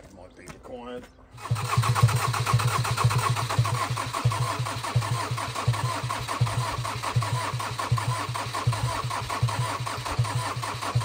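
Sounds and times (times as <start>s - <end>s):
starter motor cranking diesel engine: 1.3s - 11.0s.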